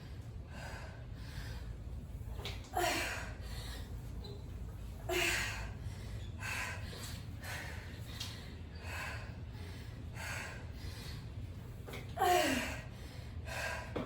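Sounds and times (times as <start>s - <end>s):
woman breathing hard: 0.0s - 4.2s, 4.9s - 14.0s
steady low rumble: 0.0s - 14.0s.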